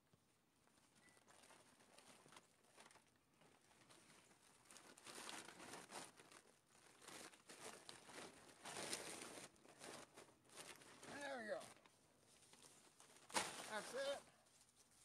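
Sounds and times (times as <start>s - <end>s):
dog food bag crinkling: 0.7s - 15.0s.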